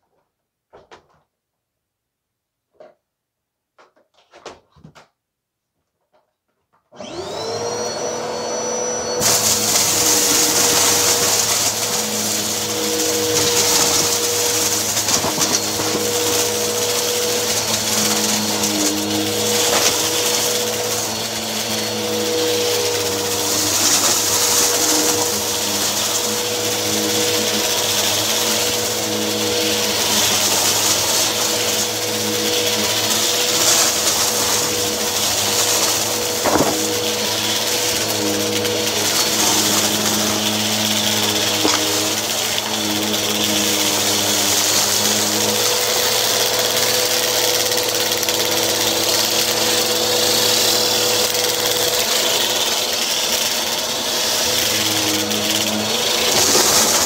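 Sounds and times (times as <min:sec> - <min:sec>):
vacuum cleaner motor whine: 0:06.9 - 0:57.0.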